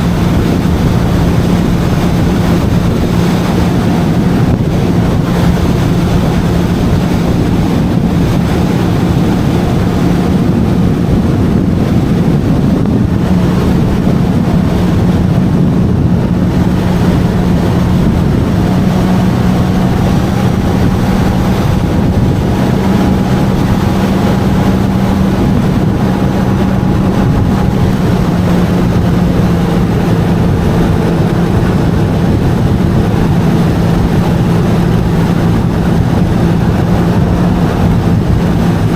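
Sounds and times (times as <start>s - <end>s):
jet ski engine running: 0.0s - 38.9s
water and wind rushing: 0.0s - 38.9s.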